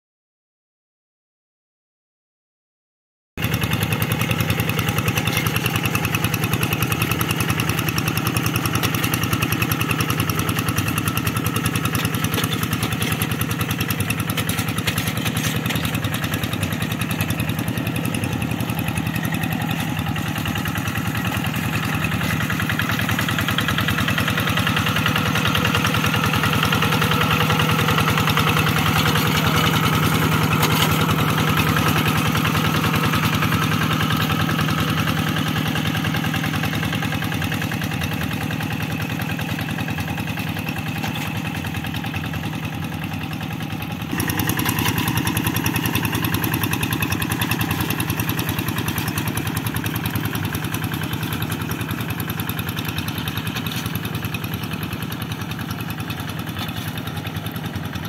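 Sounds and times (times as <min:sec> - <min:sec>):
diesel hand tractor engine running: 0:03.4 - 0:58.0.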